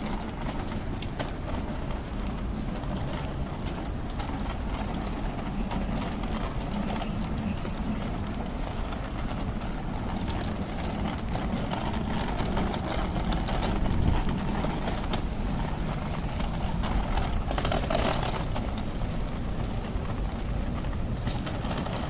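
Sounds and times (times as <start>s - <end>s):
footsteps on pavement: 0.0s - 22.0s
traffic hum: 0.0s - 22.0s.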